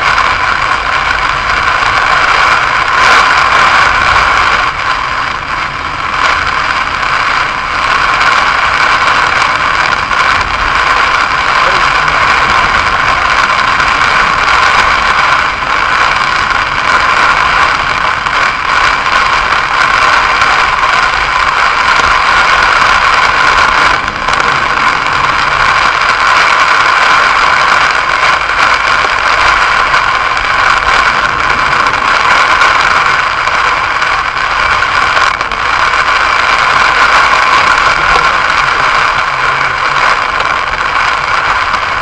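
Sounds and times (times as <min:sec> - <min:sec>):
heavy rain on car roof: 0:00.0 - 0:42.0.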